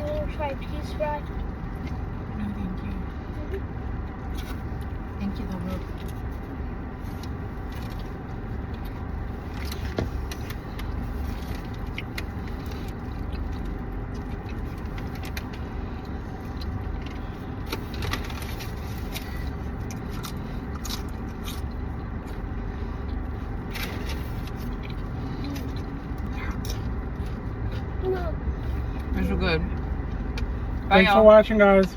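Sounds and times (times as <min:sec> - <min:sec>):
car cabin hum and rumble: 0:00.0 - 0:31.9.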